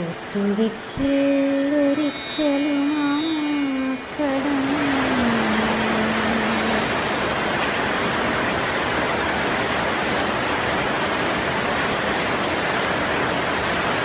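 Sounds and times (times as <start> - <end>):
rain falling on foliage: 0.0 - 14.0.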